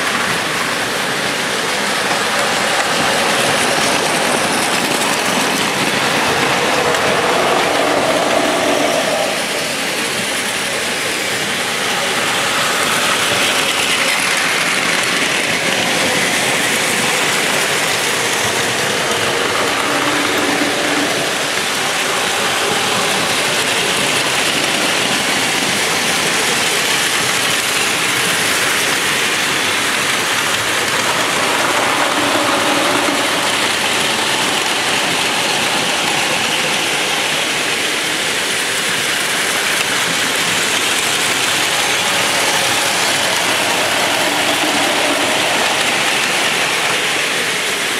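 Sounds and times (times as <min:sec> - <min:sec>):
toy trains clattering on plastic track: 0:00.0 - 0:47.9.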